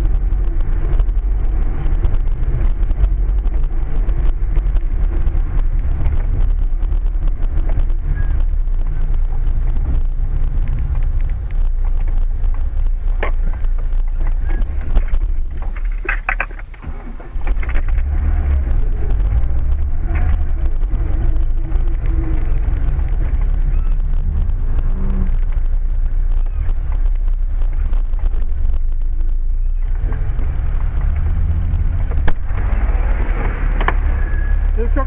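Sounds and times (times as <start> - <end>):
car driving low rumble: 0.0 - 35.0.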